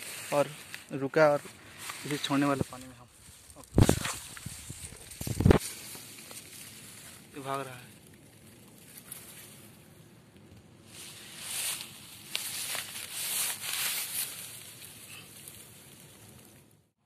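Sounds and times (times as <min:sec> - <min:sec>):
grass rustling near microphone: 0:00.0 - 0:16.8.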